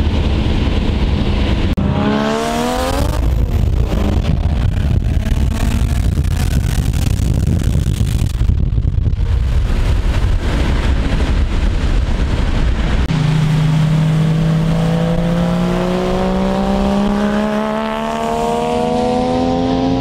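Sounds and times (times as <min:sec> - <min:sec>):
car engine: 0:00.0 - 0:20.0
rushing road noise: 0:00.0 - 0:20.0.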